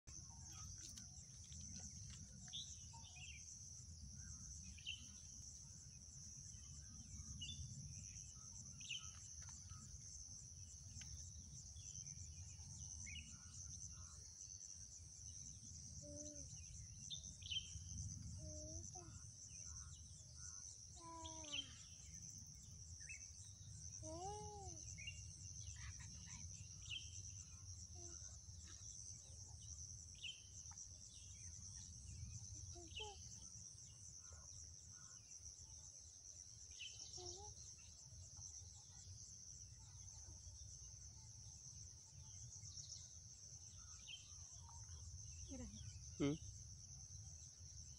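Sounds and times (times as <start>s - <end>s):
pulsing insect chorus: 0.1s - 47.9s.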